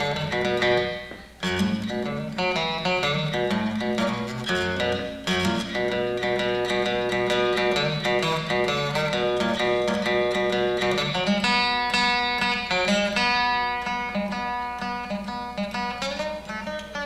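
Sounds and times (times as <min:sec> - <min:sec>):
plucked string instrument: 0:00.0 - 0:17.0.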